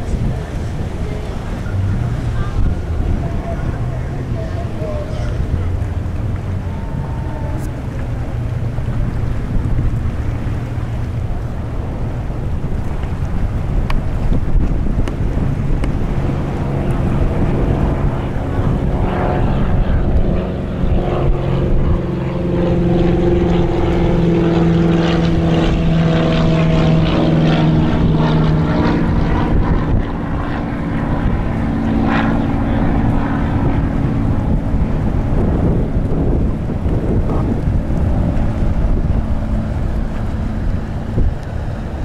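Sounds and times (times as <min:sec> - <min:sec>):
engine drone: 0:00.0 - 0:42.0
wind buffeting microphone: 0:00.0 - 0:42.0.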